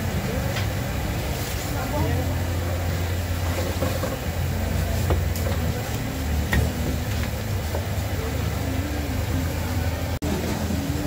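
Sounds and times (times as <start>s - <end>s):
oil deep-frying hiss: 0.0s - 11.0s.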